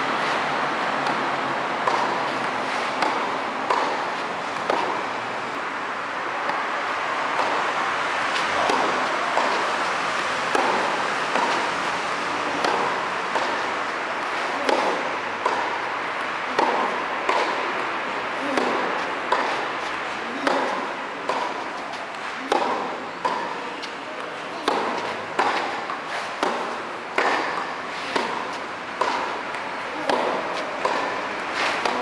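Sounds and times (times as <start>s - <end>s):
tennis ball hit by rackets: 0.2s - 5.1s, 7.3s - 7.6s, 8.3s - 32.0s.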